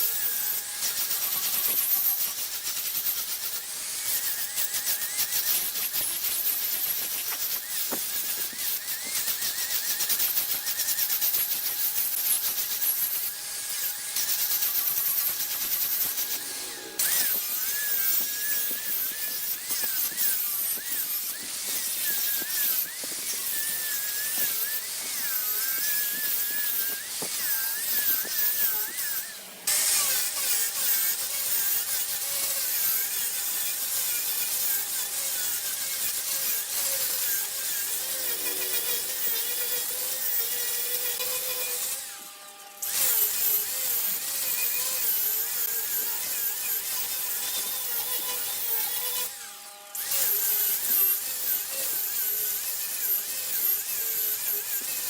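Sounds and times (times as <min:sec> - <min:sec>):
lathe tool shaving wood: 0:00.0 - 0:55.0.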